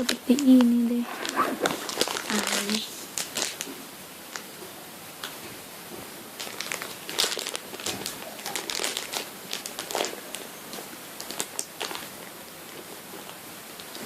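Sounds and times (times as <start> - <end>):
plastic wrapping crinkling: 0.0 - 4.5, 6.3 - 14.0.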